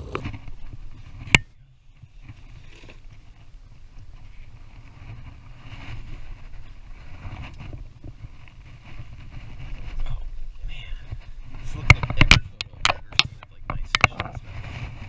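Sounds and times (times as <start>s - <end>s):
knocks and scrapes in boat: 0.0s - 15.0s
wind rumbling on microphone: 0.0s - 15.0s.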